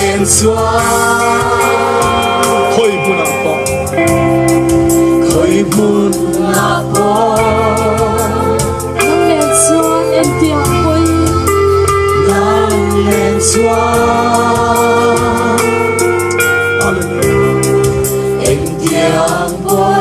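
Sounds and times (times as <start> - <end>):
drum and cymbal beat: 0.0 - 20.0
singers singing gospel song: 0.0 - 20.0
sustained keyboard chords: 0.0 - 20.0.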